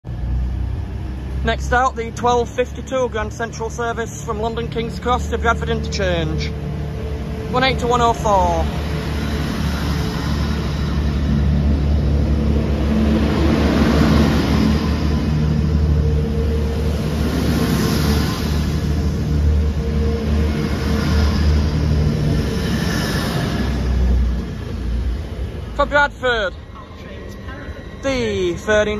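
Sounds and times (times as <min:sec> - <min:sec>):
diesel train engines droning: 0:00.0 - 0:28.9
train rumble: 0:00.0 - 0:28.9.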